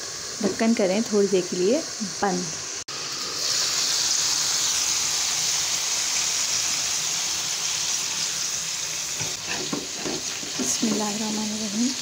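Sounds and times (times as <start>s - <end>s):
chicken sizzling in frying oil: 0.0s - 12.0s.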